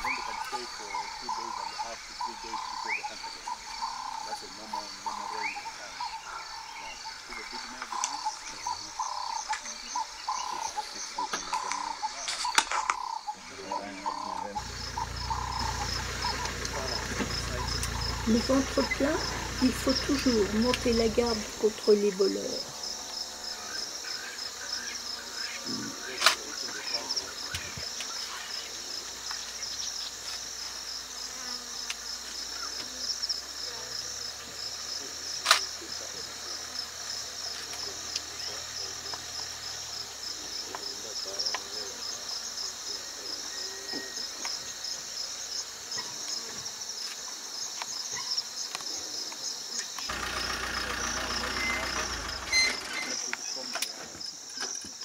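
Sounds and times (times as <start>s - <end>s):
high pulsing insect chorus: 0.0s - 55.0s.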